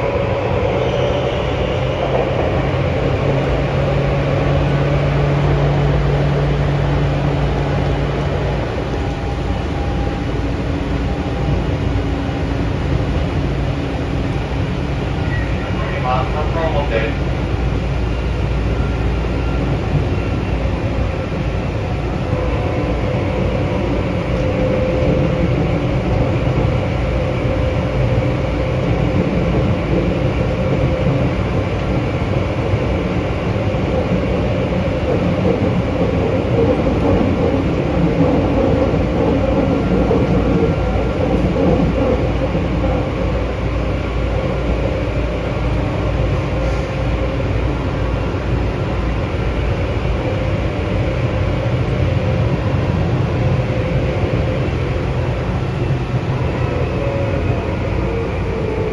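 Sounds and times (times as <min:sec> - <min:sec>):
train rumbling in a tunnel: 0:00.0 - 0:58.9.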